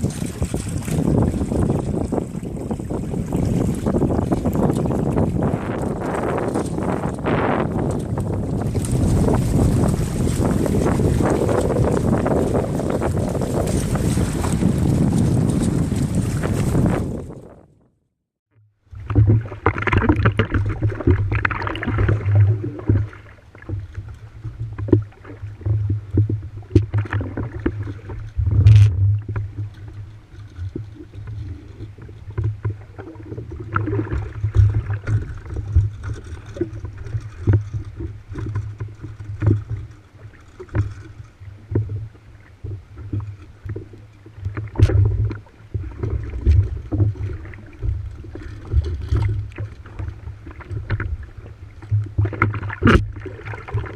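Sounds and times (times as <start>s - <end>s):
water splashing along hulls: 0.0s - 53.9s.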